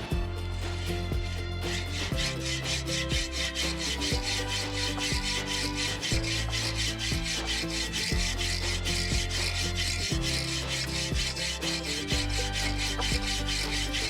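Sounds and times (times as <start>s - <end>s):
background music with beat: 0.0s - 14.0s
hand saw cutting log: 0.0s - 14.0s.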